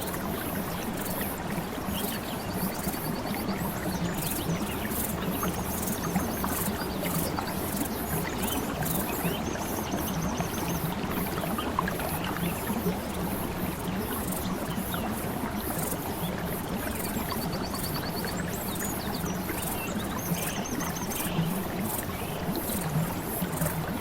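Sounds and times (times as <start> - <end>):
flowing water: 0.0 - 24.0.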